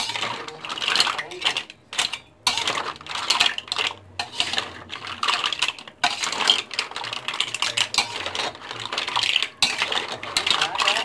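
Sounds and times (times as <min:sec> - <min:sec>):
mussel shells clattering: 0:00.0 - 0:11.0.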